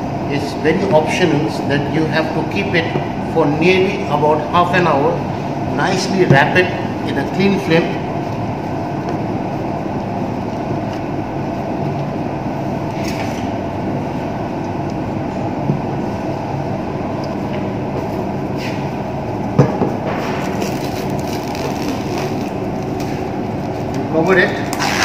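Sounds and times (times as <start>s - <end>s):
ventilation hum: 0.0s - 25.0s.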